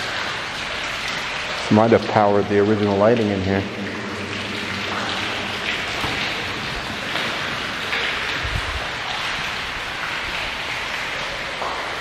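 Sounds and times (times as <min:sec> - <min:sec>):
rushing water-like noise: 0:00.0 - 0:12.0.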